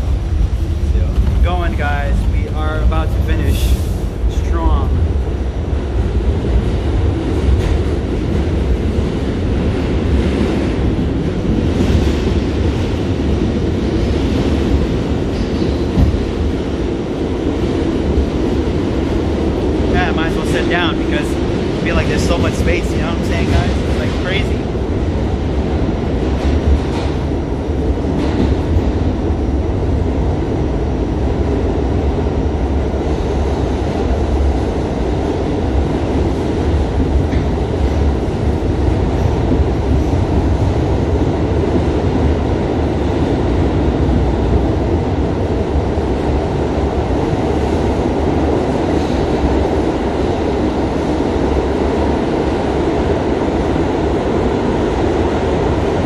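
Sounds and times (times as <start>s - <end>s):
subway car running noise: 0.0s - 56.0s.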